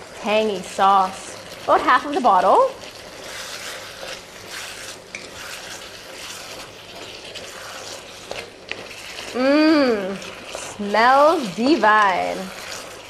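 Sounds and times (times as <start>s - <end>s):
food sizzling and bubbling in a wok: 0.0s - 13.0s
wooden spatula stirring: 0.1s - 13.0s.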